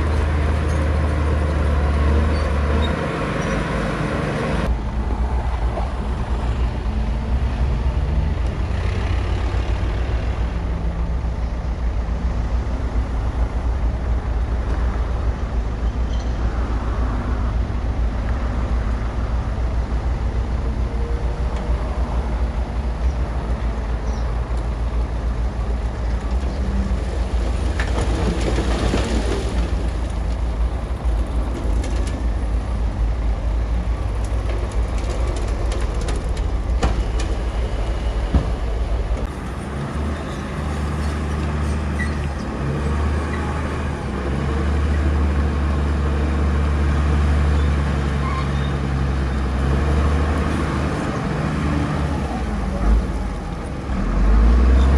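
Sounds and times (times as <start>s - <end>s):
bulldozer diesel engine rumbling: 0.0s - 54.9s.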